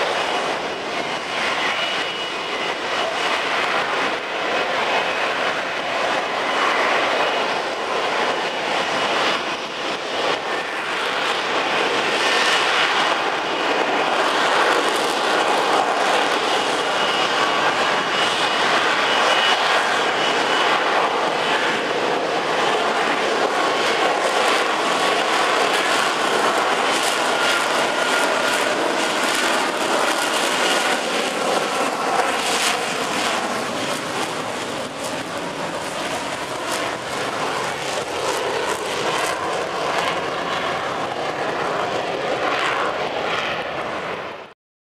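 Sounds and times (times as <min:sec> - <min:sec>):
fighter jet roaring with high whine: 0:00.0 - 0:44.6.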